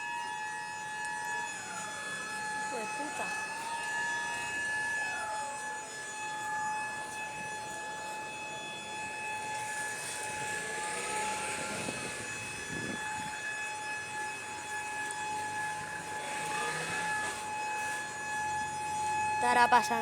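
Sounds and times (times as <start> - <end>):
gliding siren tone: 0.0 - 20.0
steady warning siren tone: 0.0 - 20.0.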